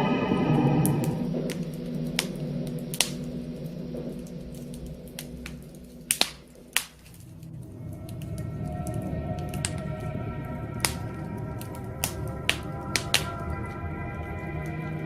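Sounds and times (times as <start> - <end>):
low steady rumble: 0.0 - 12.1
music: 0.0 - 15.0
wood fire crackling: 0.0 - 15.0.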